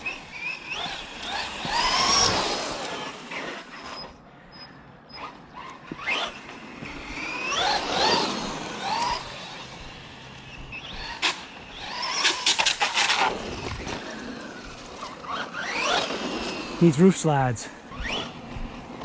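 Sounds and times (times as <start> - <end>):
rc car motor whining: 0.0 - 17.0, 17.6 - 19.0.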